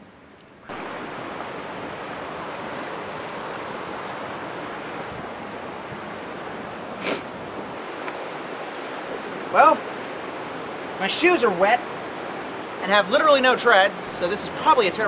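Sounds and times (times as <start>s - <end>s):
river water rushing over rocks: 0.7s - 15.0s.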